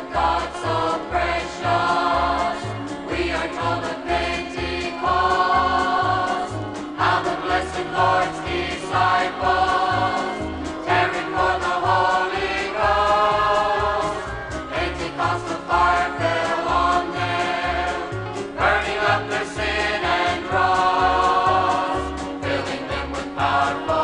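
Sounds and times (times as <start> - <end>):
choir singing gospel: 0.0 - 24.0
instrumental accompaniment: 0.0 - 24.0.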